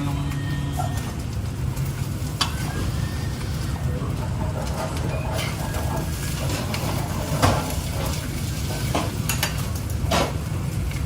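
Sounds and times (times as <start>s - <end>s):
food sizzling in a frying pan: 0.2s - 11.0s.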